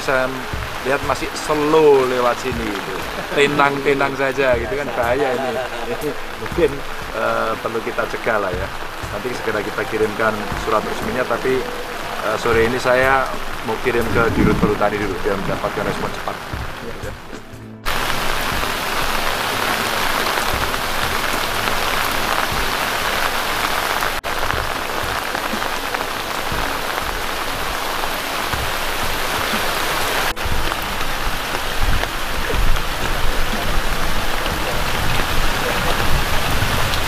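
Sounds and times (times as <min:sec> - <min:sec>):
heavy rain pouring: 0:00.0 - 0:37.0
low thumps: 0:00.0 - 0:37.0.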